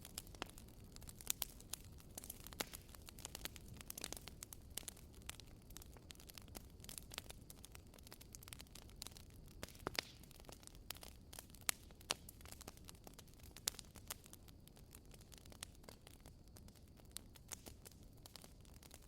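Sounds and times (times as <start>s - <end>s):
faint steady hiss: 0.0s - 19.0s
firewood crackling and popping: 0.0s - 19.0s.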